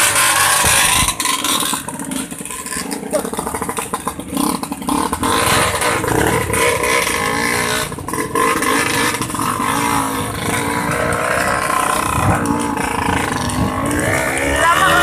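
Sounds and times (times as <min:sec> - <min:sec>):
steady rushing noise: 0:00.0 - 0:15.0
vehicle engine running: 0:00.0 - 0:15.0.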